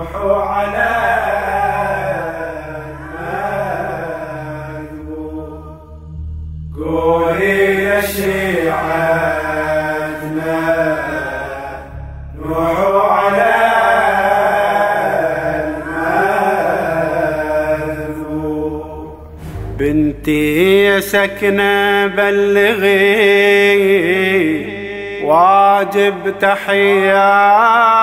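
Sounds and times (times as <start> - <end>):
man chanting a lament: 0.0 - 5.6, 6.8 - 28.0
low drone: 0.0 - 28.0.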